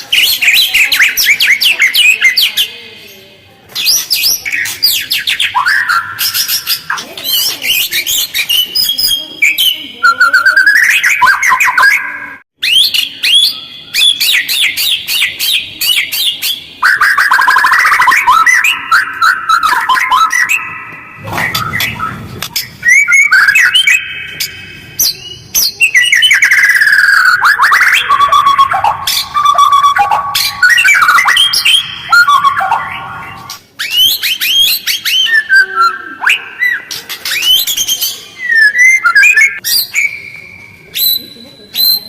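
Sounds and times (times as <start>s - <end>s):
bird singing chirps and whistles: 0.0s - 2.8s, 3.8s - 42.0s.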